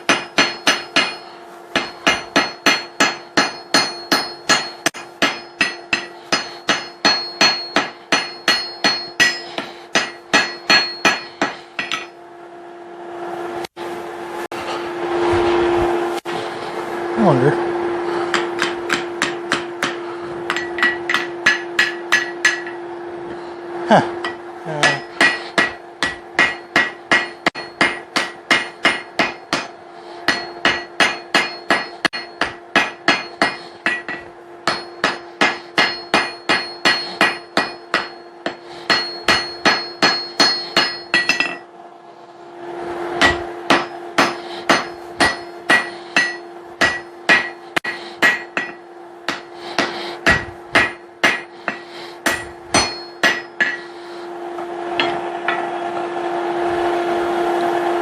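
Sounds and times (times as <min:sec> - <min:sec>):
hammer ringing on hot steel: 0:00.0 - 0:12.4, 0:17.9 - 0:23.1, 0:23.9 - 0:41.7, 0:43.1 - 0:56.6
steady low hum: 0:00.0 - 0:58.0.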